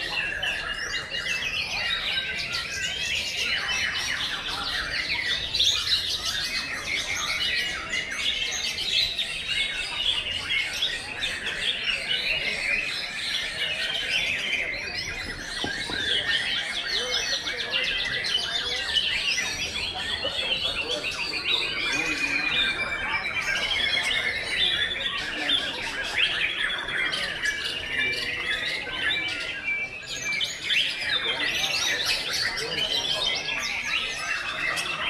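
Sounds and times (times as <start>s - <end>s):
many birds singing: 0.0s - 35.0s.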